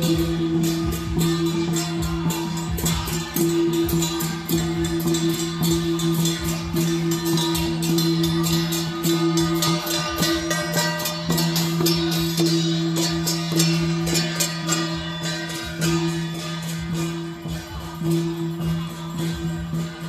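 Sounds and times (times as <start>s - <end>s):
metallic percussion strikes: 0.0s - 20.0s.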